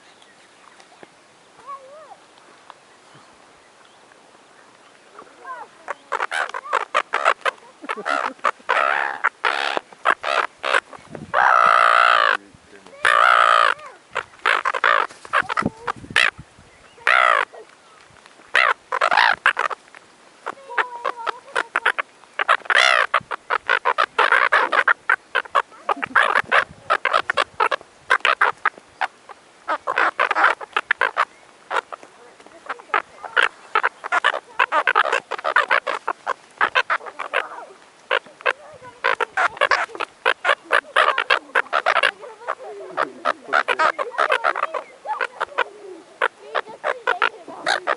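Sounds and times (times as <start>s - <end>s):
gulls squawking: 5.1s - 16.4s, 17.0s - 17.7s, 18.5s - 47.9s.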